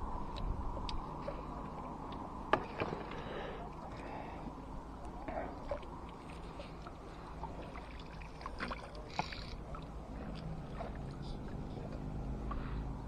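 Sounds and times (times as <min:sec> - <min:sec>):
low rumble of wind and water: 0:00.0 - 0:13.0.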